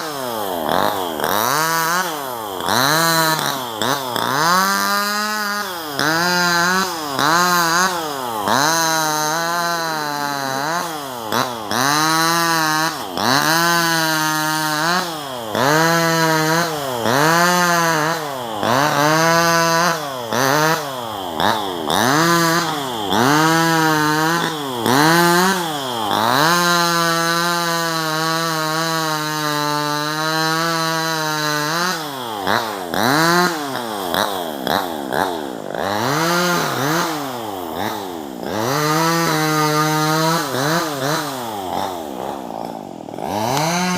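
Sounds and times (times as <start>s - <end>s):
chainsaw revving: 0.0s - 43.9s.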